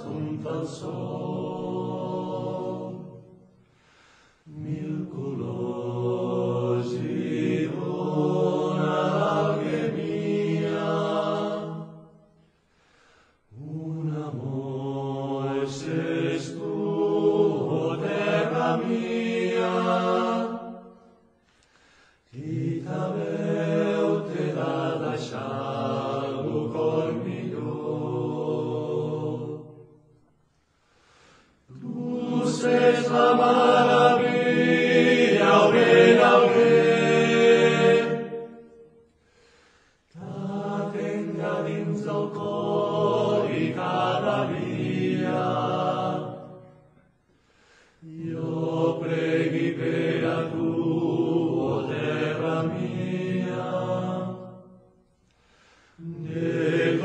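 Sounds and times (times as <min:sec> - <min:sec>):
choir singing: 0:00.0 - 0:03.6, 0:04.4 - 0:12.3, 0:13.5 - 0:21.3, 0:22.3 - 0:30.2, 0:31.6 - 0:39.1, 0:40.1 - 0:47.2, 0:48.0 - 0:55.1, 0:56.0 - 0:57.0.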